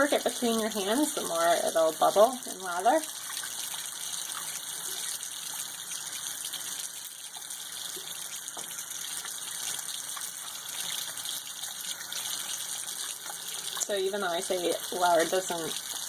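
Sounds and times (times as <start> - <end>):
tap water running: 0.0 - 16.0.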